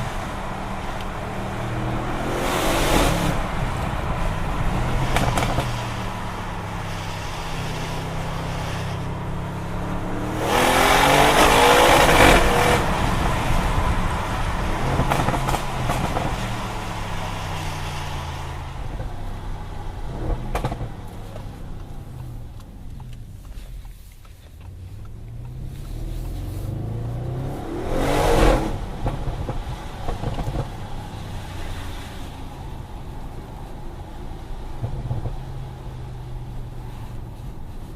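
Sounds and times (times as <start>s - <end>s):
car engine accelerating hard: 0.0s - 24.0s, 24.6s - 37.9s
exhaust cracks: 0.0s - 37.9s.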